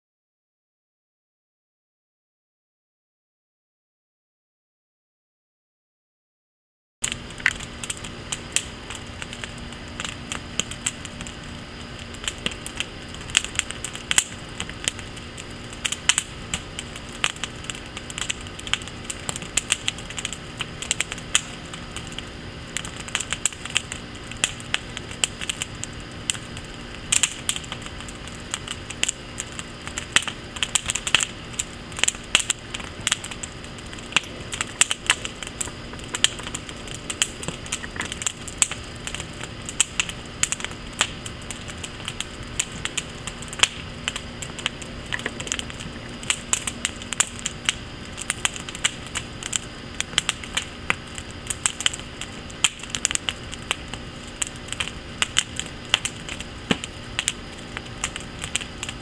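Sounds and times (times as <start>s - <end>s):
wood fire crackling and popping: 7.0s - 59.0s.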